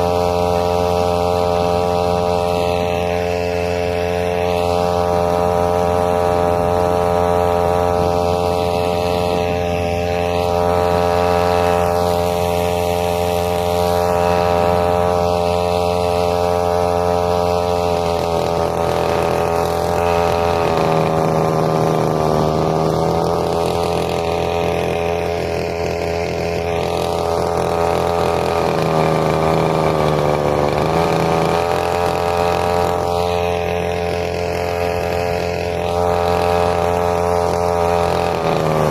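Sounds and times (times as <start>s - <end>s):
small outboard motor running: 0.0s - 38.9s.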